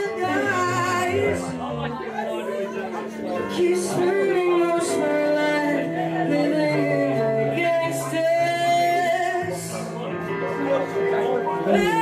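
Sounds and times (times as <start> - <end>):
keyboard chords and bass line: 0.0 - 12.0
person singing: 0.0 - 12.0.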